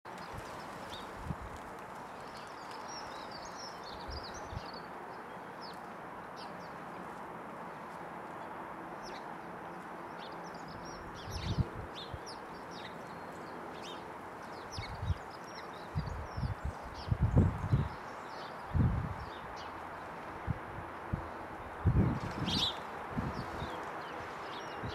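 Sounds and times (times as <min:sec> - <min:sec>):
sparrows chirping: 0:00.1 - 0:01.3, 0:01.9 - 0:20.2, 0:21.0 - 0:24.9
steady background noise: 0:00.1 - 0:24.9.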